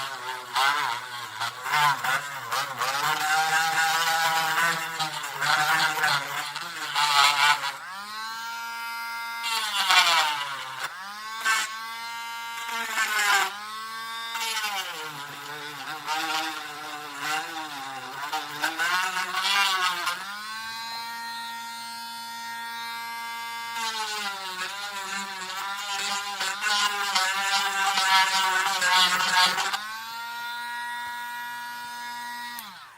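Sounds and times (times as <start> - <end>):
electric drill motor whining: 0.0 - 32.9.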